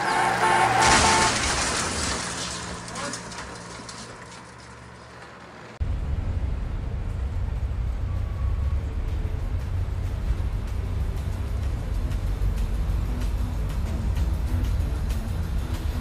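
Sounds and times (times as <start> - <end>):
rolling street noise: 0.0 - 16.0.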